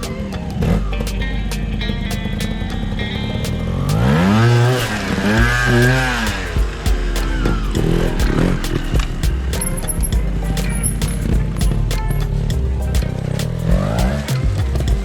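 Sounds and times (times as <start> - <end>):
background music with steady beat: 0.0 - 15.0
motorcycle engine revving: 0.0 - 15.0.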